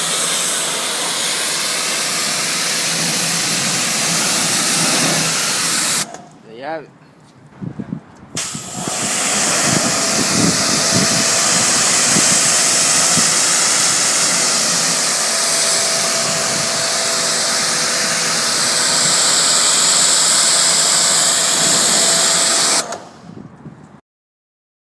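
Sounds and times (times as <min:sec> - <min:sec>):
pressure washer spraying: 0:00.0 - 0:06.3, 0:08.4 - 0:23.2.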